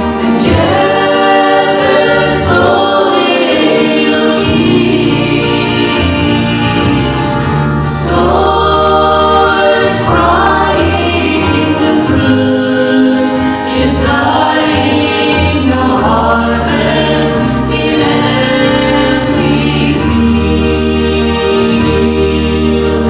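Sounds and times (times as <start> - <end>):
group singing gospel in harmony: 0.0 - 23.0
instrumental accompaniment with bass: 0.0 - 23.0.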